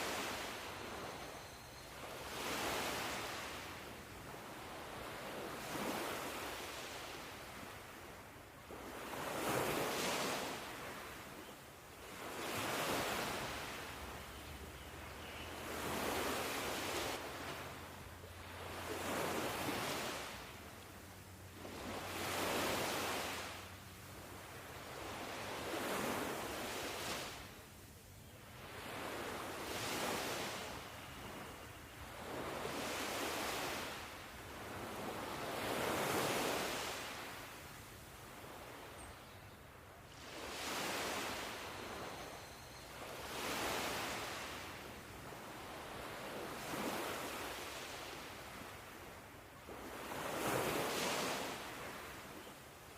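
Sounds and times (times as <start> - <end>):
ocean waves washing onto shore: 0.0 - 27.7, 28.5 - 39.1, 40.0 - 52.9.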